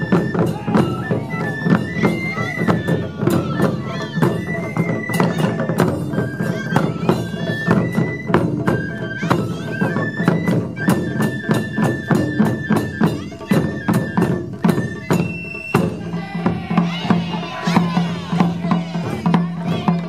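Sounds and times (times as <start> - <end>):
bamboo flutes playing melody: 0.0 - 20.0.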